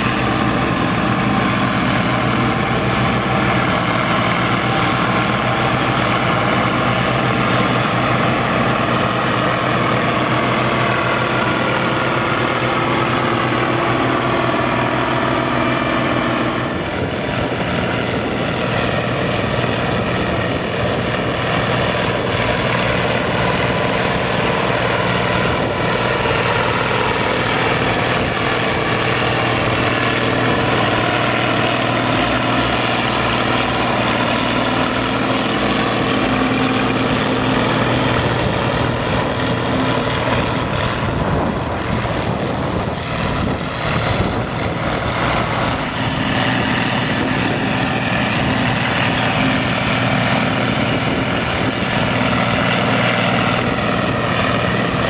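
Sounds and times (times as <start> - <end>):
tractor engines running: 0.0 - 55.0.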